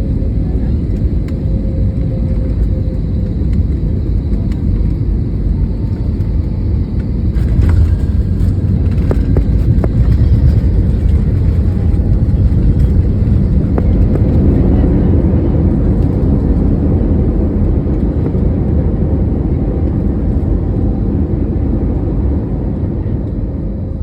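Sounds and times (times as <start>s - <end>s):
airliner rumble: 0.0s - 24.0s.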